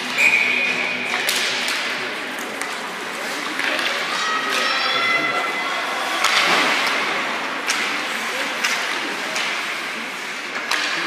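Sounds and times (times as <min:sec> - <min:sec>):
rink and crowd noise: 0:00.0 - 0:11.0.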